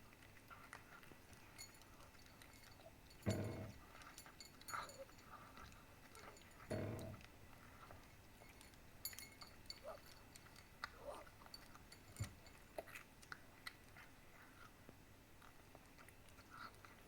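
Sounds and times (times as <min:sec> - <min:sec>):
cat eating: 0:00.0 - 0:17.0.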